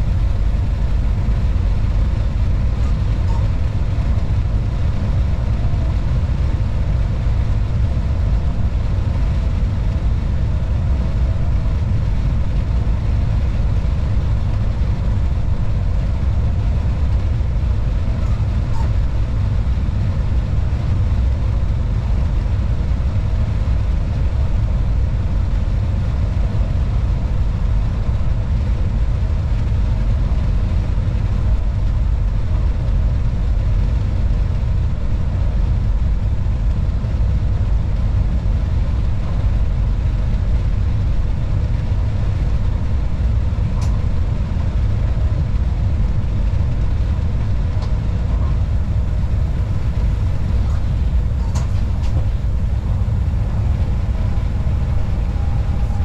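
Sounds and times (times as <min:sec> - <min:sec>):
locomotive cab rumble: 0:00.0 - 0:56.0.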